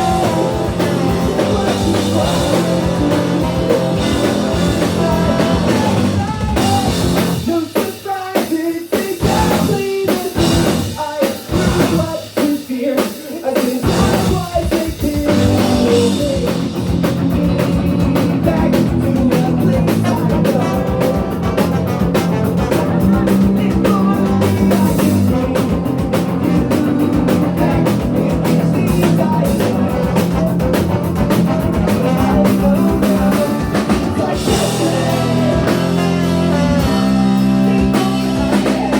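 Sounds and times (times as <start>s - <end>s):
ska punk band playing live: 0.0s - 38.9s.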